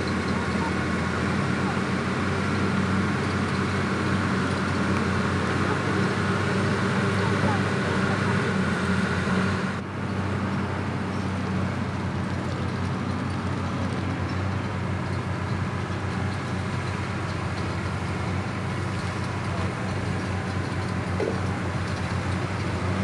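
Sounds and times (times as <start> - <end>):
bulldozer diesel engines: 0.0 - 23.0.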